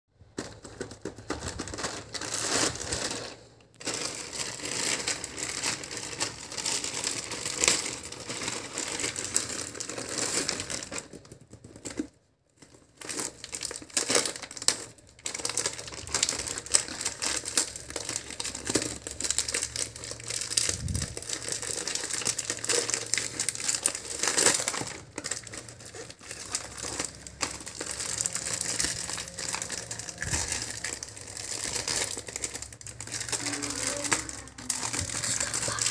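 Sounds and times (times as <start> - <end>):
plastic packaging crinkling: 0.2 - 35.9.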